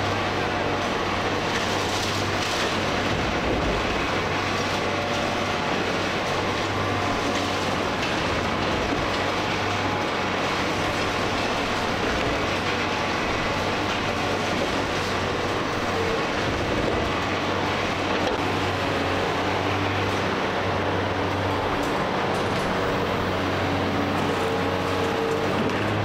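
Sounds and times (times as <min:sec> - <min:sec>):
demolition clatter: 0:00.0 - 0:26.0
excavator diesel engine: 0:00.0 - 0:26.0.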